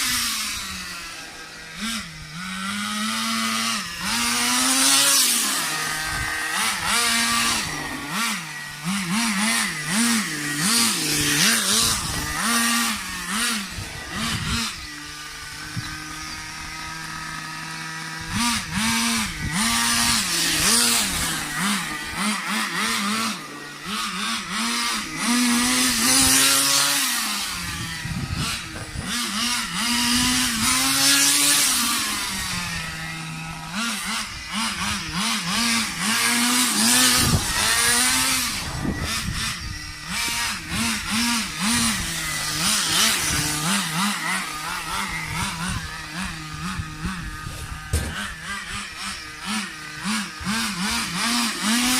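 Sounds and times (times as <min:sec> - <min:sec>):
rc car nitro engine revving: 0:00.0 - 0:51.9.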